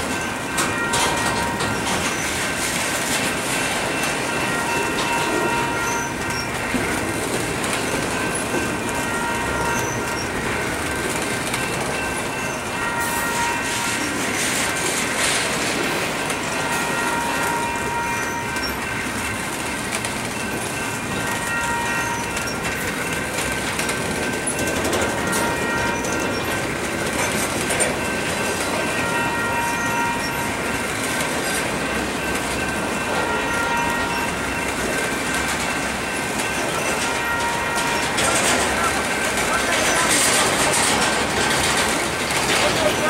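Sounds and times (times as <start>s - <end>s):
steel wheels rumbling on rail: 0.0s - 43.0s
ringing wheel squeals: 0.1s - 7.0s, 7.7s - 14.8s, 16.5s - 19.7s, 20.4s - 34.7s, 35.3s - 43.0s.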